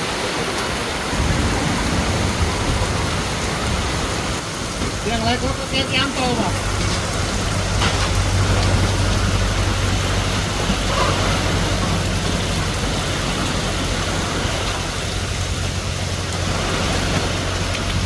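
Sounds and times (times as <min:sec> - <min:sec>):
heavy rain downpour: 0:00.0 - 0:18.0.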